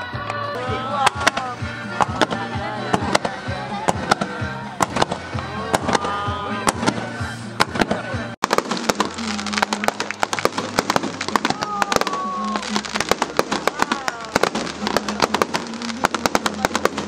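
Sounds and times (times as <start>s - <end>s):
music playing: 0.0s - 17.0s
fireworks bangs and crackling: 0.9s - 17.0s.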